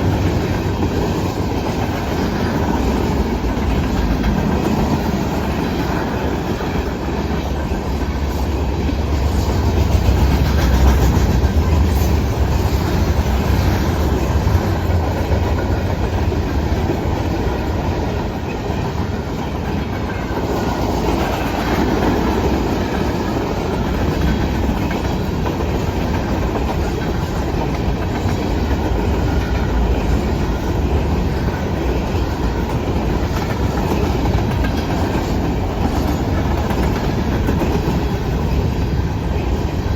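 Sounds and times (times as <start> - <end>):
freight train cars rumbling past: 0.0 - 39.9
wheels clicking over rail joints: 0.0 - 39.9.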